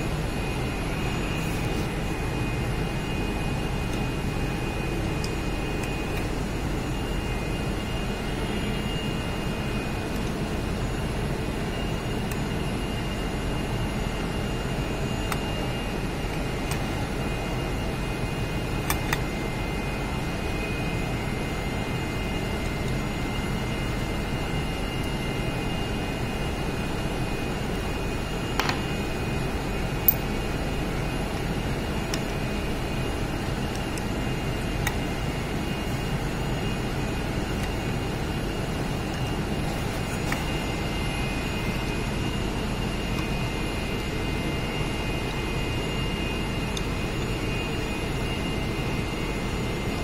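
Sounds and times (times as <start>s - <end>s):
steady machinery noise: 0.0s - 50.0s.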